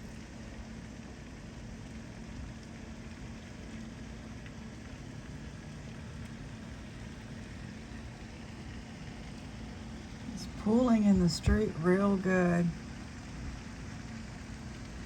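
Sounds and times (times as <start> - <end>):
faint low hum: 0.0 - 15.0
steady rain falling: 0.0 - 15.0.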